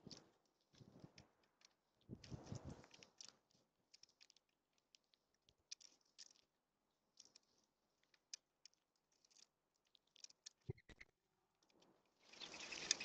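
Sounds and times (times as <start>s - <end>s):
birds pecking at seed feeder: 0.0s - 13.0s.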